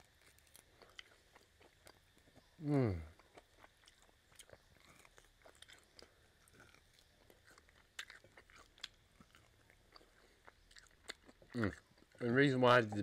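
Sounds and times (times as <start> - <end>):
person chewing meat off bone: 0.0 - 12.2.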